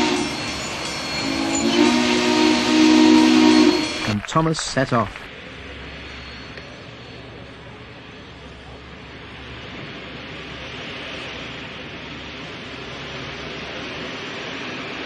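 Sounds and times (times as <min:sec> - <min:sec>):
train rushing: 0:00.0 - 0:15.0.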